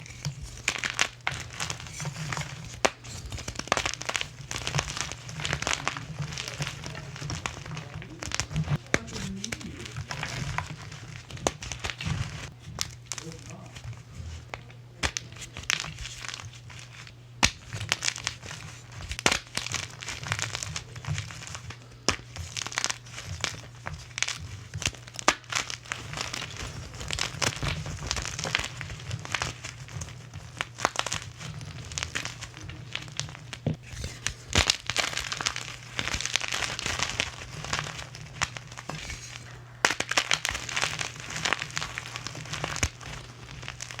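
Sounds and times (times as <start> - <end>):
crunching and crinkling: 0.0 - 44.0.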